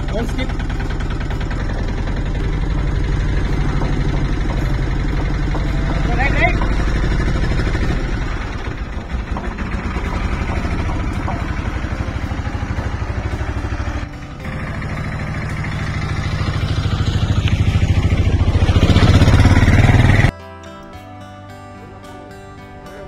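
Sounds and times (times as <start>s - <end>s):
auto-rickshaw engine chugging: 0.0s - 20.3s.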